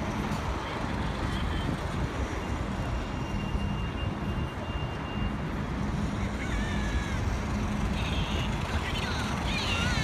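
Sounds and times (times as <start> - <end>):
passing vehicles rumbling: 0.0 - 10.0.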